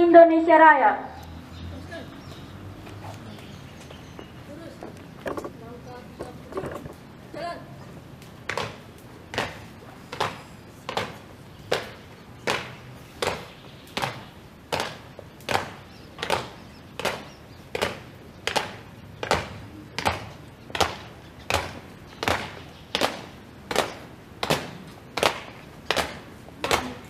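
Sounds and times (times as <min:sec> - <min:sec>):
marching stamps on concrete: 0:02.7 - 0:07.0, 0:07.8 - 0:27.0.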